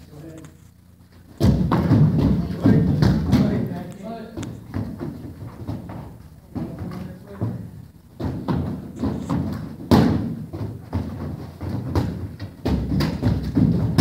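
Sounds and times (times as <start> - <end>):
kicks thudding on heavy bags: 1.3 - 14.0.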